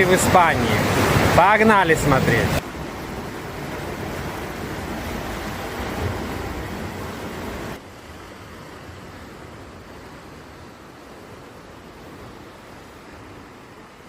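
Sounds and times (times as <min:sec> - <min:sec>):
sea surf: 0:00.0 - 0:14.0
wind: 0:00.0 - 0:14.0.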